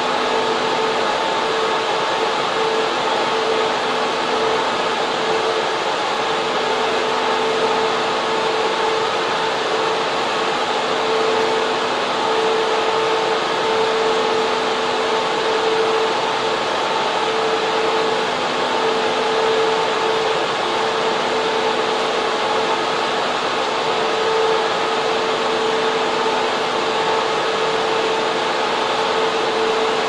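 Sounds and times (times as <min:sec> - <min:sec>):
constant hum tone: 0:00.0 - 0:30.0
server fans rushing: 0:00.0 - 0:30.0.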